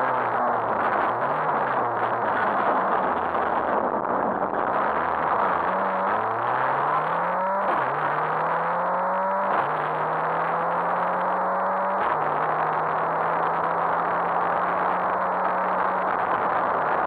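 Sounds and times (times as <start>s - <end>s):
car engine accelerating: 0.0s - 17.0s
road and cabin noise: 0.0s - 17.0s.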